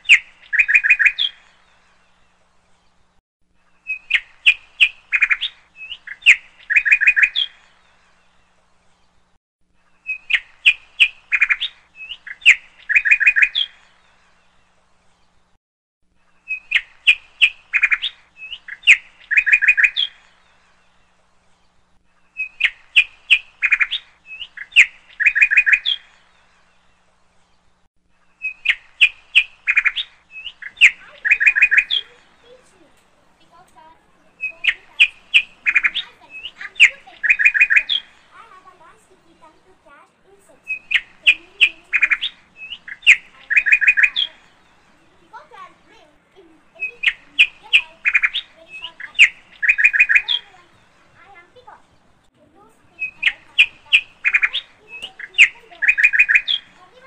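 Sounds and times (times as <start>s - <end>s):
recorded birdsong chirps and trills: 0.0s - 57.0s.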